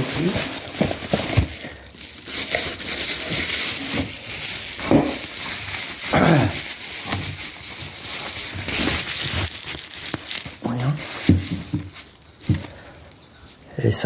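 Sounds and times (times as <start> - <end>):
packaging crinkling and rustling: 0.0 - 13.6.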